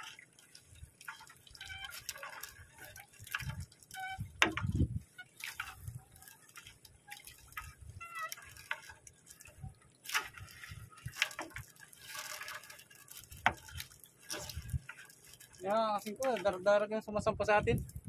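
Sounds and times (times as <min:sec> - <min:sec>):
water dripping and splashing: 0:00.0 - 0:18.0.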